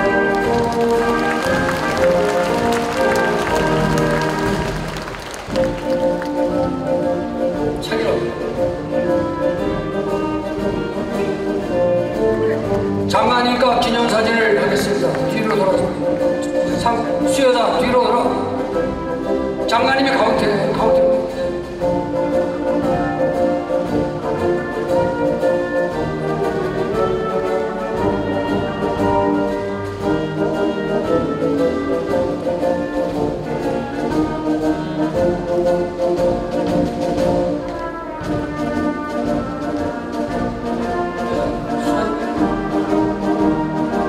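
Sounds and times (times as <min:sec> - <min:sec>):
orchestral music with brass chords: 0:00.0 - 0:44.0.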